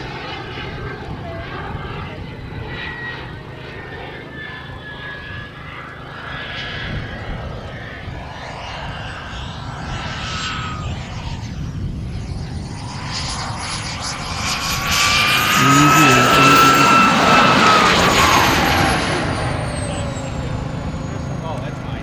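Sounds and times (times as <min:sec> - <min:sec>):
wind rumble on microphone: 0:00.0 - 0:03.5, 0:06.6 - 0:22.0
model jet turbine whining: 0:00.0 - 0:22.0.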